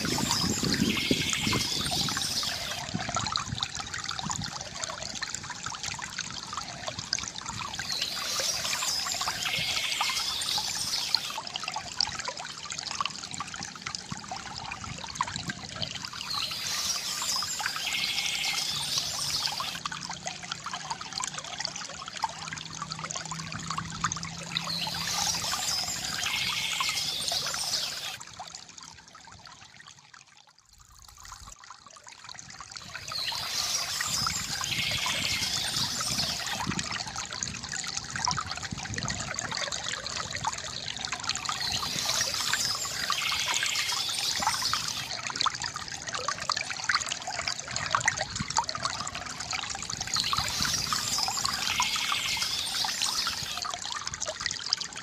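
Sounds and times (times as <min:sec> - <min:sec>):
water trickling from fountain spout: 0:00.0 - 0:55.0.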